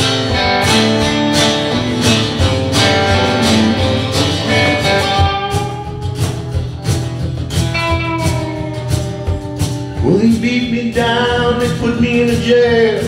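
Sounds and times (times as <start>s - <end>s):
live band playing: 0.0s - 13.0s
low pulsing beat: 0.0s - 13.0s
strummed acoustic guitar: 0.0s - 13.0s.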